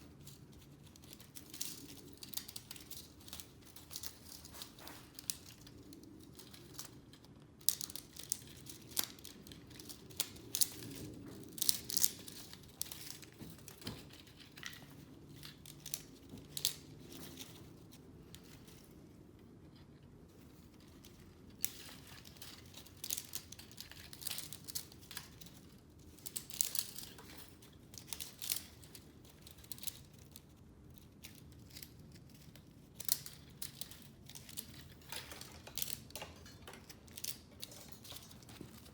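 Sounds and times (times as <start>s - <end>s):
crinkling: 0.0s - 38.9s.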